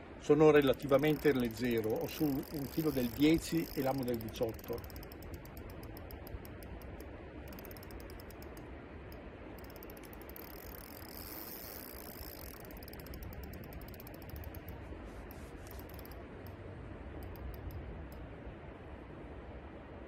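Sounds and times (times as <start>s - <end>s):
steady background hiss: 0.0s - 20.0s
fishing reel gears ticking: 0.6s - 16.6s, 17.2s - 18.2s.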